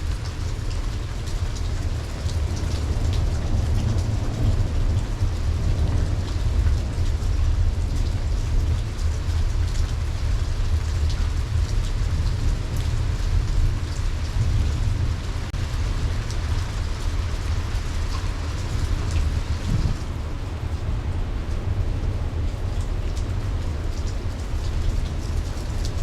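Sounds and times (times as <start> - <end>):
low rumble of thunder: 0.0 - 26.0
rain falling: 0.0 - 26.0.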